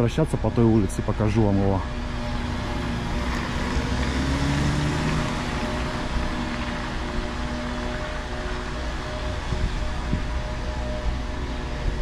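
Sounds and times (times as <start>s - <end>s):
low traffic rumble: 0.0s - 12.0s
vehicle engine running: 0.0s - 12.0s.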